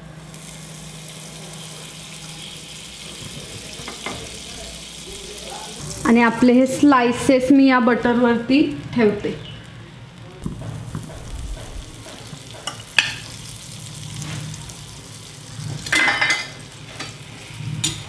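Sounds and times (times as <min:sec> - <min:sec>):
butter and bread sizzling in pan: 0:00.0 - 0:18.0.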